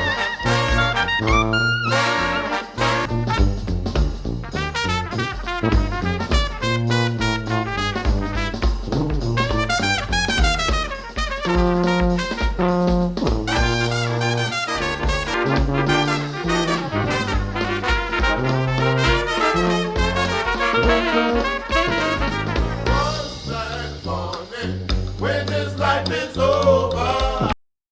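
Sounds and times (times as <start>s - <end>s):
upbeat brass music: 0.0s - 27.6s.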